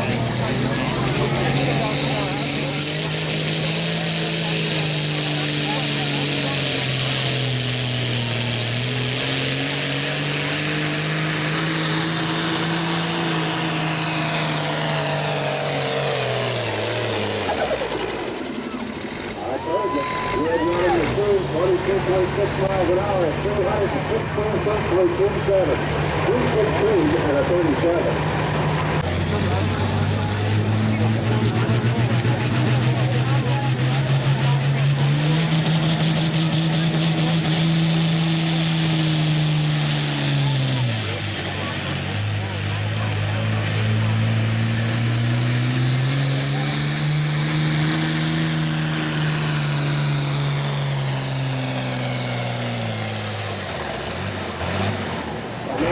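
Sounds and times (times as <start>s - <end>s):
tractor diesel engine running hard: 0.0s - 55.9s.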